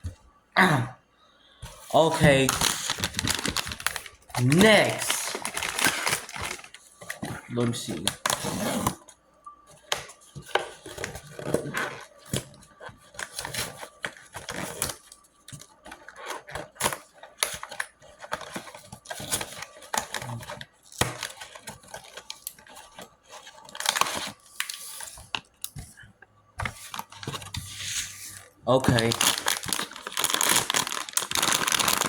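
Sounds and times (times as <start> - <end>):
cardboard and plastic tearing: 2.0 - 9.0, 9.9 - 25.4, 28.7 - 32.0.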